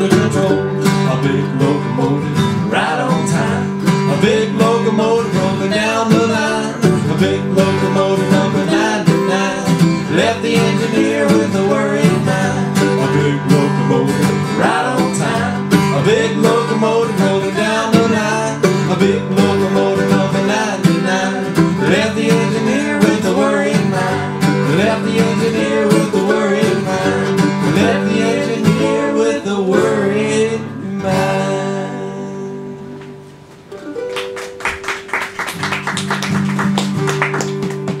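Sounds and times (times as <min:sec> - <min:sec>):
acoustic guitar: 0:00.0 - 0:38.0
mandolin: 0:00.0 - 0:38.0.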